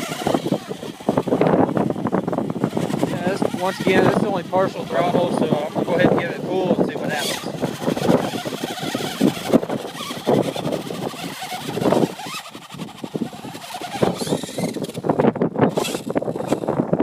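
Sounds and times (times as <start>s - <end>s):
rc truck motor rattling: 0.0s - 17.0s.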